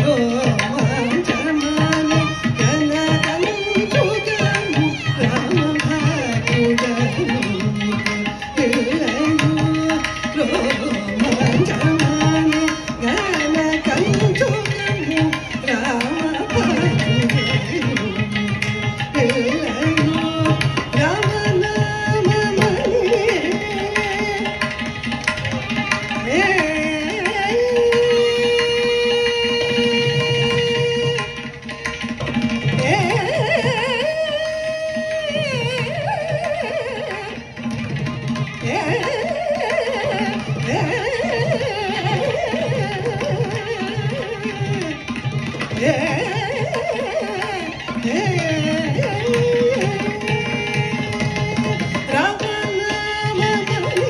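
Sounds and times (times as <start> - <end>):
woman singing: 0.0 - 31.6, 32.4 - 37.5, 38.4 - 54.0
violin: 0.0 - 54.0.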